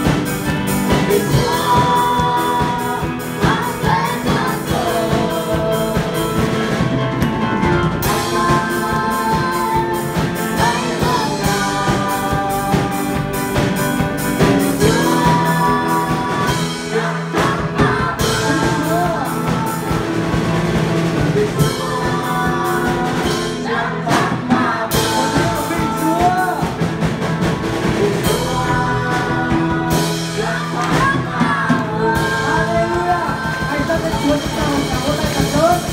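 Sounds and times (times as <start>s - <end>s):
band with drums and electric guitar: 0.0s - 35.9s
woman and man singing a hymn: 0.0s - 35.9s.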